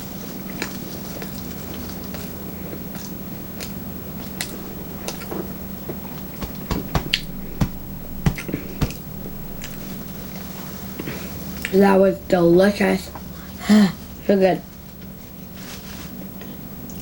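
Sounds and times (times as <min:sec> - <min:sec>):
steady low hum: 0:02.0 - 0:15.6.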